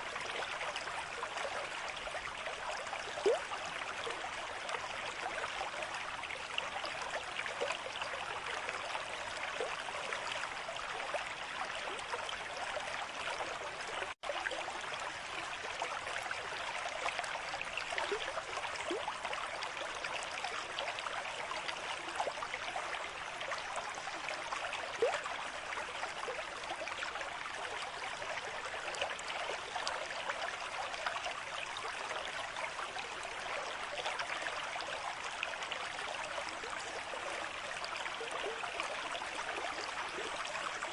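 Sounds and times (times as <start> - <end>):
stream trickling and gurgling: 0.0 - 40.9.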